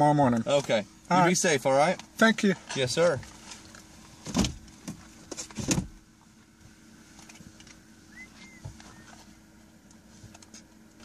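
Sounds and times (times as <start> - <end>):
low steady hum inside car: 0.0 - 11.0.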